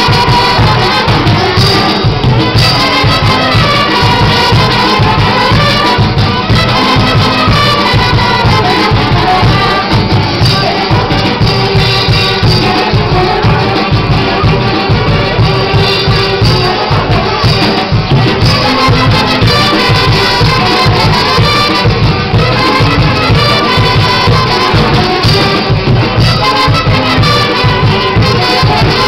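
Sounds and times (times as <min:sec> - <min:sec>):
folk dance music: 0:00.0 - 0:29.0
shaken percussion: 0:00.0 - 0:29.0.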